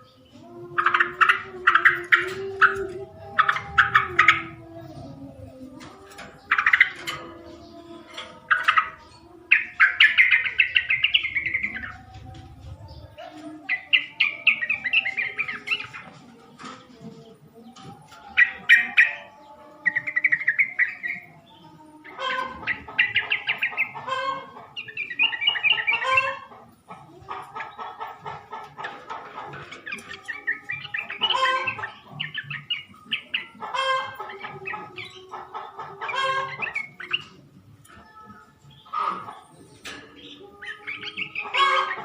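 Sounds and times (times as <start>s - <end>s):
bird song chattering phrases: 0.0s - 42.0s.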